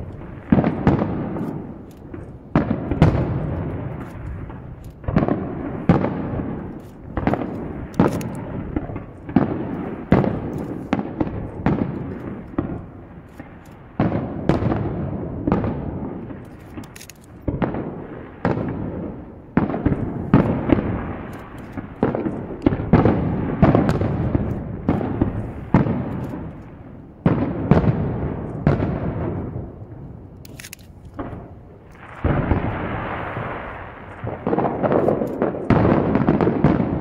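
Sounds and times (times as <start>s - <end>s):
firework shells booming: 0.0s - 37.0s.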